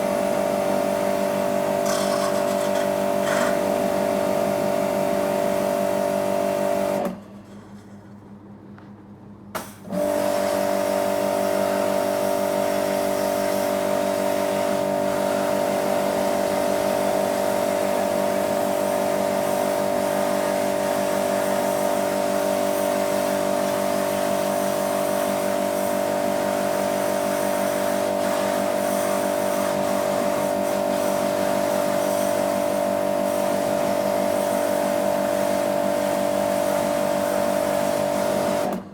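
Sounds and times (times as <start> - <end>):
washer pump motor hum: 0.0 - 7.4, 9.6 - 38.9.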